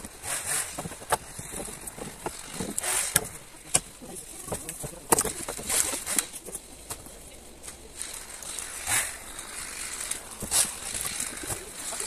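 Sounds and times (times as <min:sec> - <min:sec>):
wood rustling: 0:00.0 - 0:12.0
wooden poles clacking: 0:00.0 - 0:12.0.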